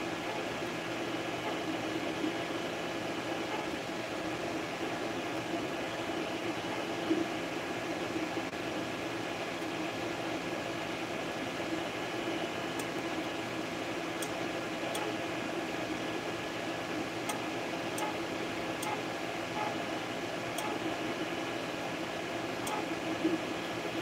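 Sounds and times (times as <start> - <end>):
printer fans and motors whirring: 0.0 - 24.0.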